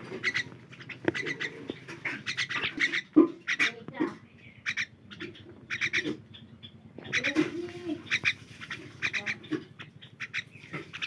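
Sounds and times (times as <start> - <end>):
myna calling: 0.0 - 11.0.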